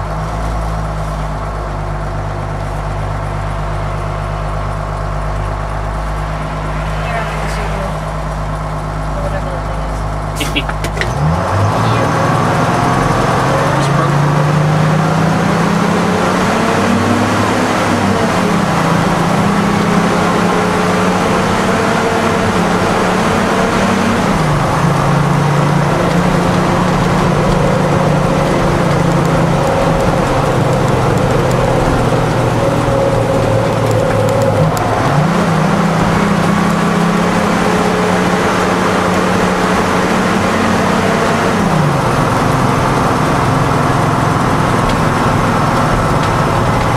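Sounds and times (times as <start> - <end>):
diesel engine accelerating: 0.0 - 46.9.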